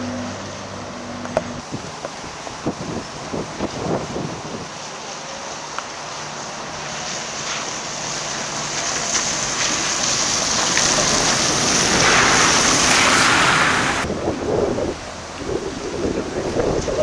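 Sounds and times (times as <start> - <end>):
tyres hissing through water: 0.0 - 14.1
trolleybus passing: 0.0 - 17.0.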